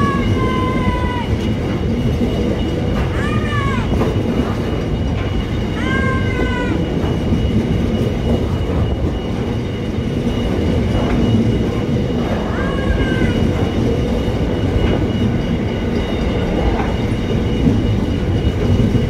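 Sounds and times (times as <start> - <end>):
freight train wheels rumbling: 0.0 - 19.0
high wheel squeal: 0.0 - 19.0.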